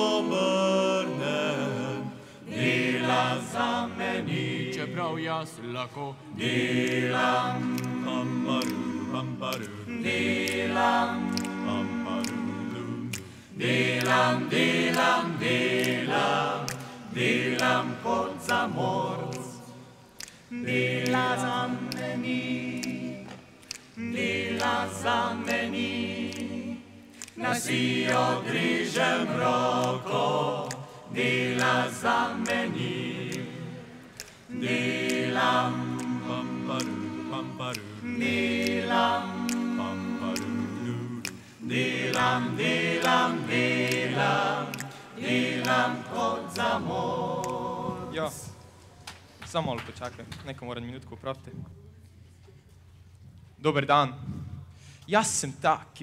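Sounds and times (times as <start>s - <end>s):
young voices singing a cappella: 0.0s - 49.0s.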